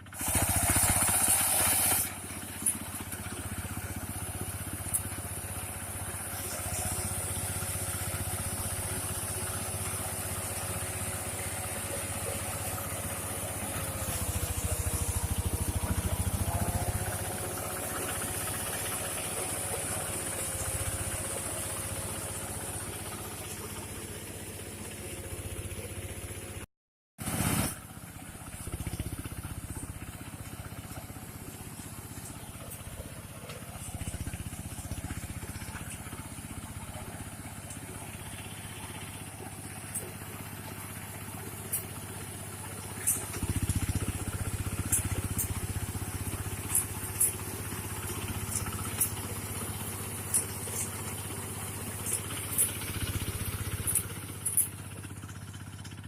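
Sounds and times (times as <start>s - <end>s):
harvesting machine engine whining: 0.0s - 26.6s, 27.4s - 56.0s.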